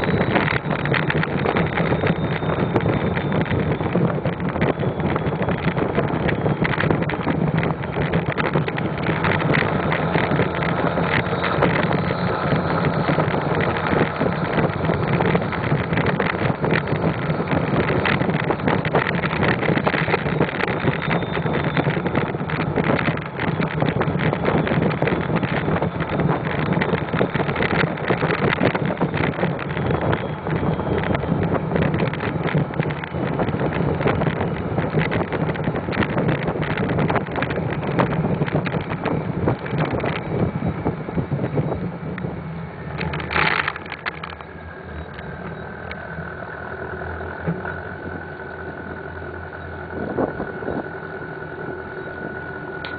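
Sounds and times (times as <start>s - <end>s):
diesel engine running: 0.0s - 52.9s
wind on microphone: 0.0s - 52.9s.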